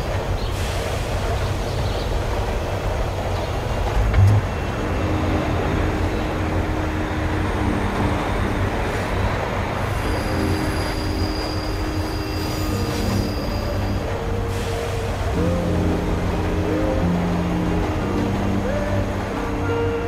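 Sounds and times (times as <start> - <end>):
subway train rumble on rails: 0.0 - 20.0
wheel squeals: 3.4 - 20.0.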